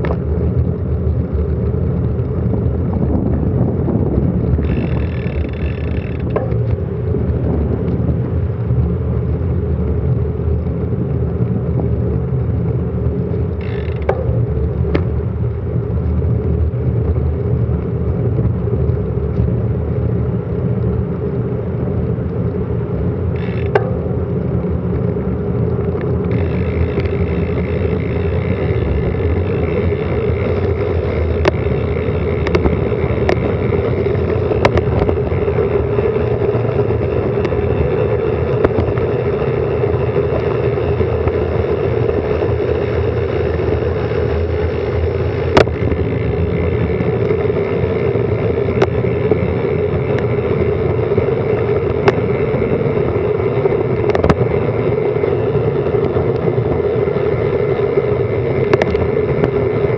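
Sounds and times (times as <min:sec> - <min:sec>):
bicycle clicks and rattles: 0:00.0 - 0:59.9
road rumble: 0:00.0 - 0:59.9.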